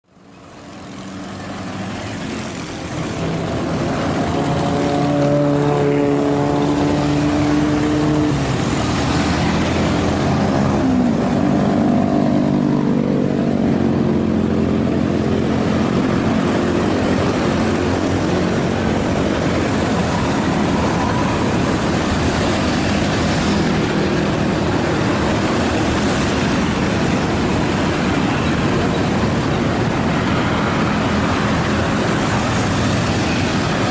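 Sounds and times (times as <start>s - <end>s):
vehicles passing: 0.0s - 33.9s
motorcycle engines running: 0.2s - 33.9s.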